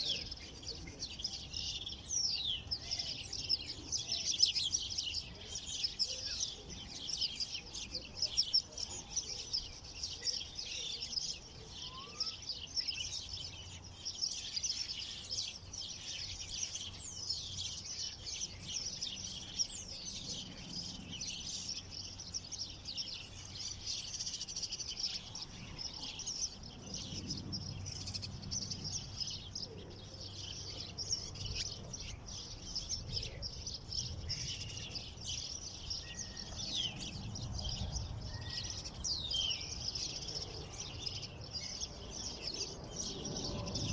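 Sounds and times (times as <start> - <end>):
songbirds chirping and twittering: 0.0 - 43.9.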